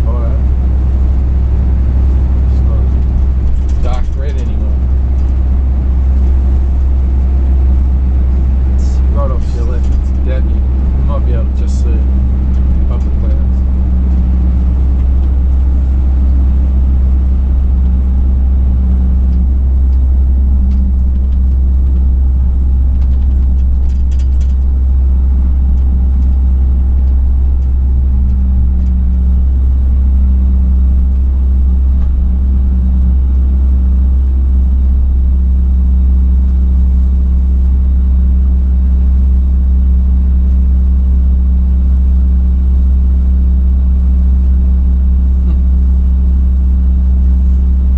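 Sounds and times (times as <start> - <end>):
road rumble: 0.0 - 47.9
truck engine from inside cab: 0.0 - 47.9.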